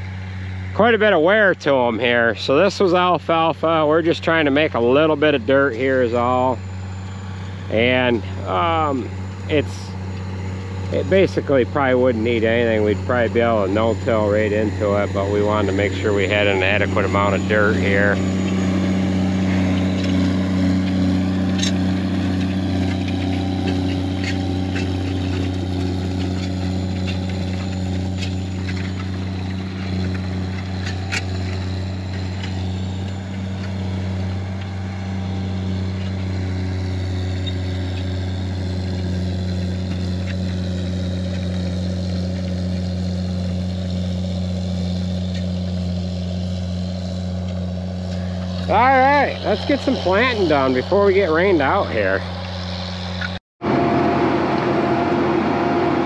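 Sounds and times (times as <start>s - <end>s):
tractor engine humming: 0.0s - 56.0s.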